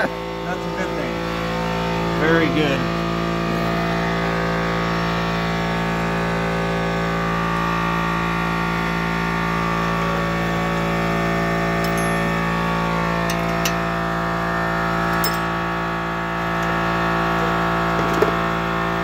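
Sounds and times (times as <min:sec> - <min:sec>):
air compressor motor humming: 0:00.0 - 0:19.0.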